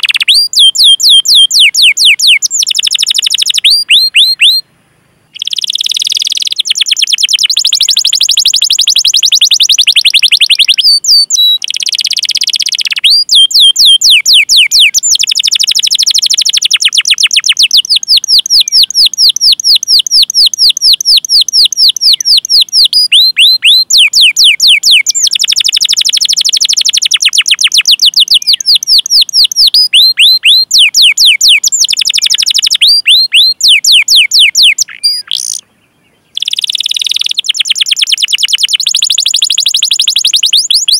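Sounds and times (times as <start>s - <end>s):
canary singing trills: 0.0s - 4.7s, 5.3s - 40.9s.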